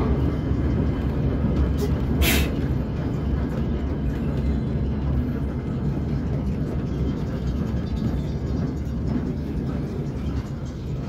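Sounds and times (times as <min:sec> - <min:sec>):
diesel train rumbling: 0:00.0 - 0:11.0.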